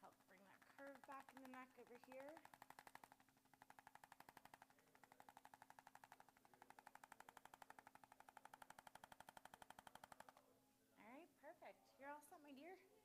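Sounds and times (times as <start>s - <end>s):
massager rapid tapping: 0.0s - 10.5s.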